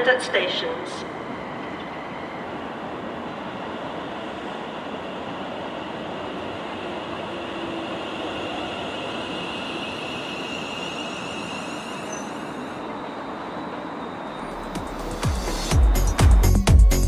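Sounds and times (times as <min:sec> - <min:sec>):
electric train rumble and whine: 0:00.0 - 0:17.0.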